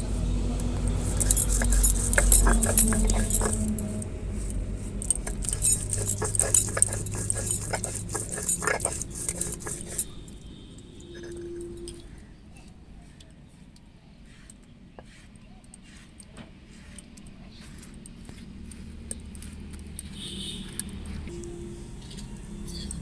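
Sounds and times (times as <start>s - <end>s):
spices ground with stone: 0.0s - 10.3s, 12.6s - 21.3s.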